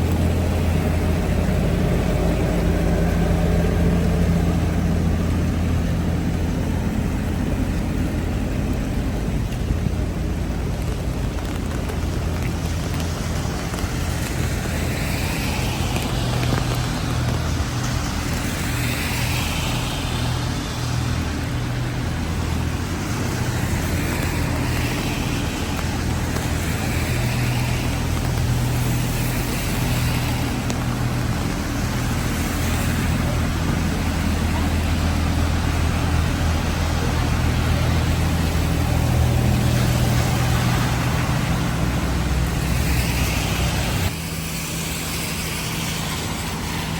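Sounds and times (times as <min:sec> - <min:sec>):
continuous low rumble: 0:00.0 - 0:46.9
heavy rain: 0:00.0 - 0:46.9.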